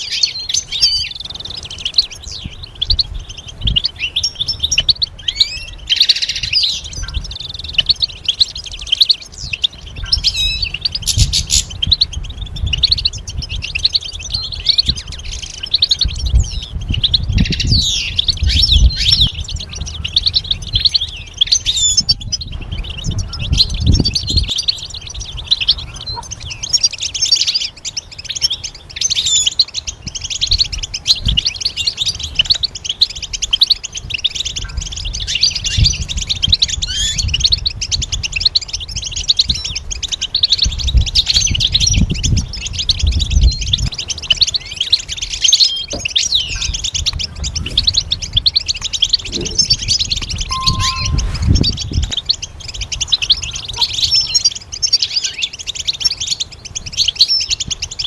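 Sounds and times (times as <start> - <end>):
goldfinch twittering and trilling: 0.0 - 58.0.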